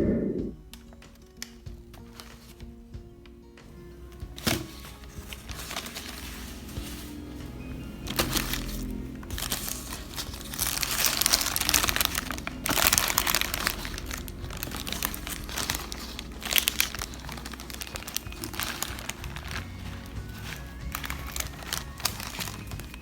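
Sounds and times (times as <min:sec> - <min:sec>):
faint background music: 0:00.0 - 0:23.0
wrapping crinkling: 0:00.7 - 0:02.8, 0:03.8 - 0:23.0.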